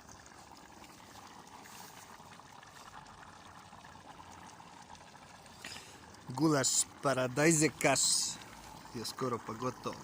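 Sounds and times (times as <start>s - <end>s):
stew bubbling in a pot: 0.0s - 10.0s.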